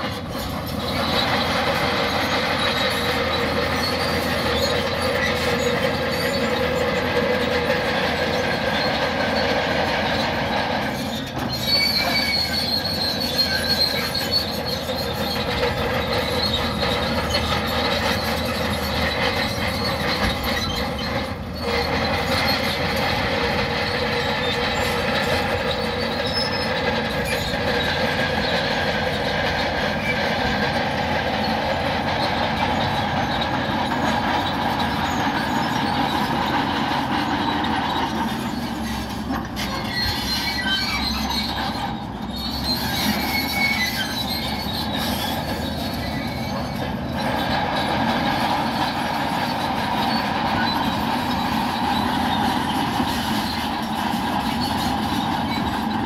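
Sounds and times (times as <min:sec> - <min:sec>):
bulldozer engine running: 0:00.0 - 0:56.0
steel tracks squealing: 0:00.0 - 0:56.0.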